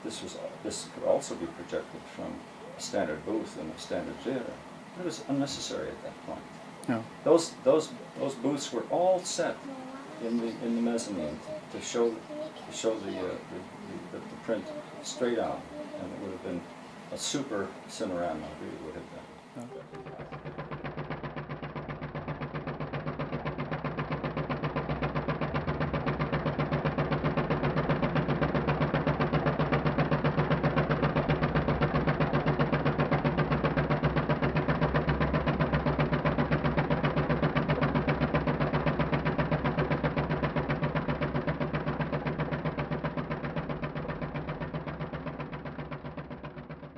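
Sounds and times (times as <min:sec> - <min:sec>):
film projector clattering: 0:00.0 - 0:46.9
motor hum: 0:00.0 - 0:46.9.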